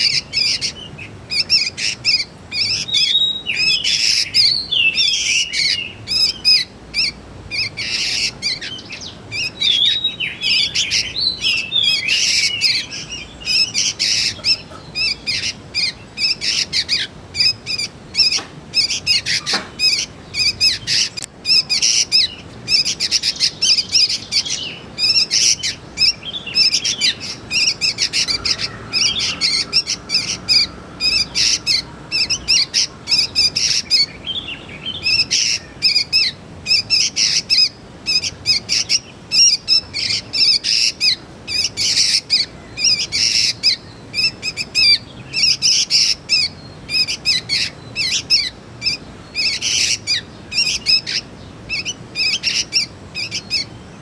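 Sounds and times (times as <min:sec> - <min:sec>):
young birds chirping: 0:00.0 - 0:54.0.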